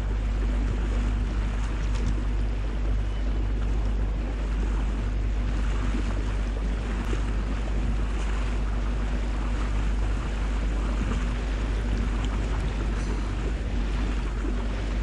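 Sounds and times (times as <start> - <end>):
boat engine hum: 0.0 - 15.0
water rushing along hull: 0.0 - 15.0
wind buffeting microphone: 0.0 - 15.0.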